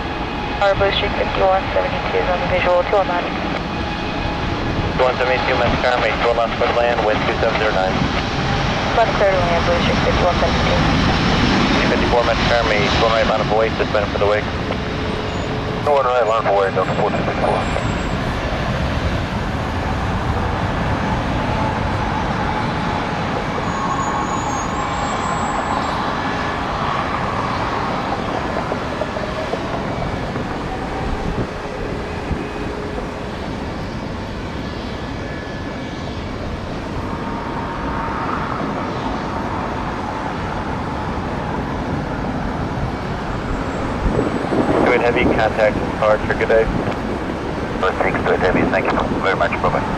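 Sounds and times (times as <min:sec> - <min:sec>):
faint jet engine whine: 0:00.0 - 0:49.9
jet engines rumbling and hissing: 0:00.0 - 0:49.9.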